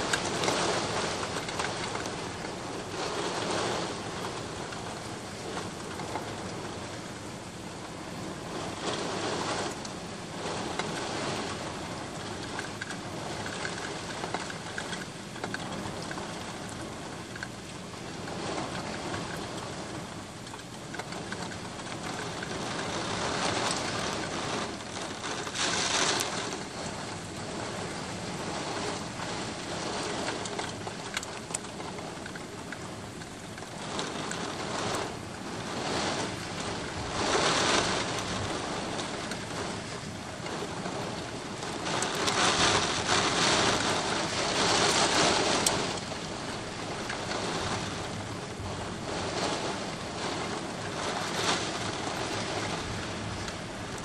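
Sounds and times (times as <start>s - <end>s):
heavy rain on street: 0.0s - 54.0s.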